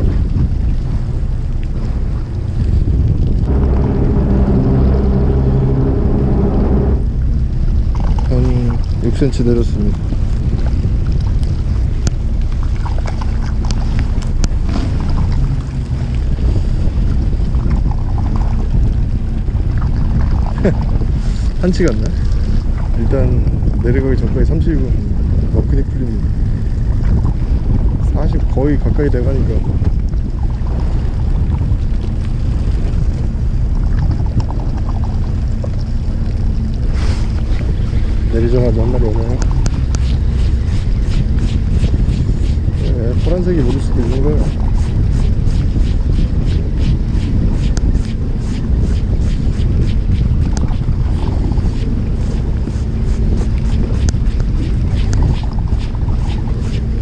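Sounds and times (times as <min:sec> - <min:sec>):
boat and water sounds: 0:00.0 - 0:57.0
wind buffeting microphone: 0:00.0 - 0:57.0.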